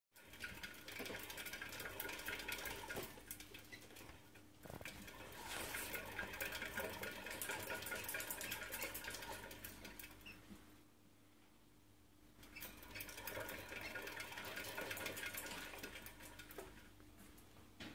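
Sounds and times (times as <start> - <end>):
exercise wheel clattering: 0.2 - 10.4, 12.4 - 16.8.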